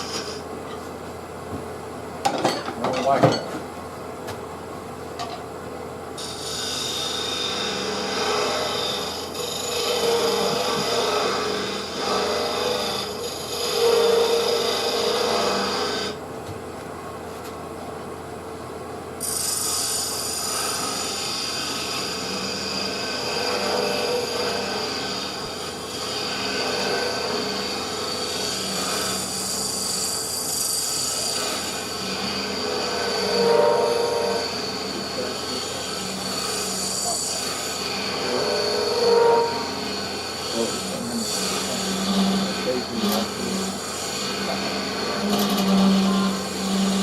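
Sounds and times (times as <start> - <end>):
wood lathe humming: 0.0 - 0.5, 6.2 - 16.2, 19.2 - 47.0
tool scraping turning wood: 6.2 - 16.2, 19.2 - 47.0.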